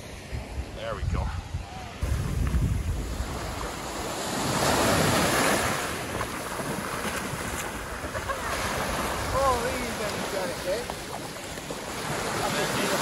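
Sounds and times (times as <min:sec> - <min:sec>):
wind buffeting microphone: 0:00.0 - 0:13.0
surf waves breaking: 0:01.8 - 0:13.0.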